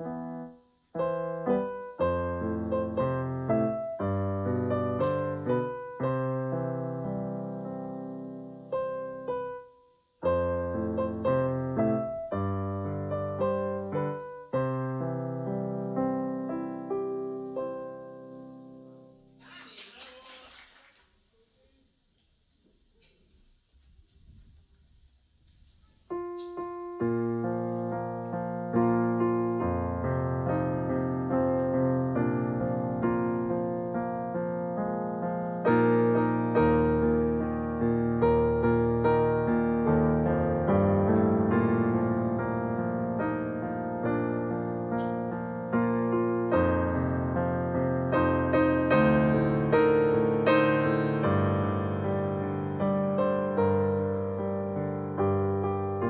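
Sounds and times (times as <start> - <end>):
piano playing chords: 0.0 - 19.4, 26.1 - 56.0.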